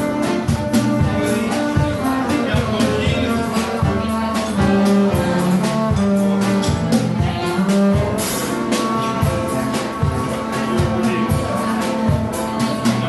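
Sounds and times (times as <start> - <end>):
held melody notes: 0.0 - 13.0
plucked double bass: 0.0 - 13.0.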